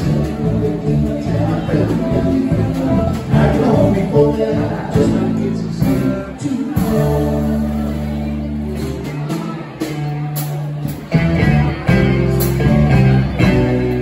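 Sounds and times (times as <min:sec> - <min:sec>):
drum kit: 0:00.0 - 0:14.0
electric bass: 0:00.0 - 0:14.0
electric guitars: 0:00.0 - 0:14.0.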